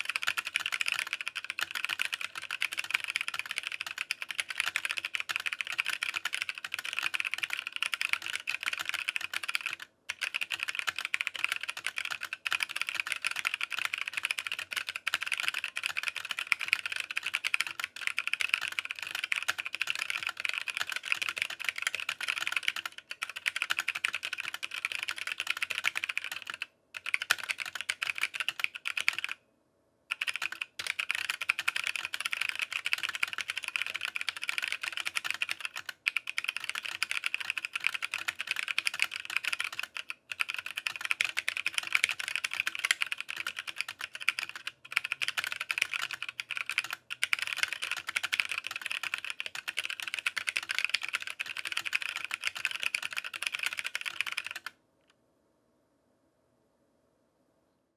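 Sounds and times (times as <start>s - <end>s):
fast mechanical keyboard typing: 0.0s - 29.4s, 30.1s - 54.8s.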